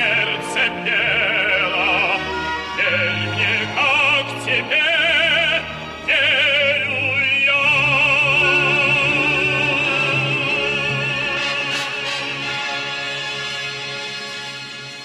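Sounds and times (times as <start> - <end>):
operatic solo singing: 0.0 - 13.0
orchestral accompaniment: 0.0 - 15.0.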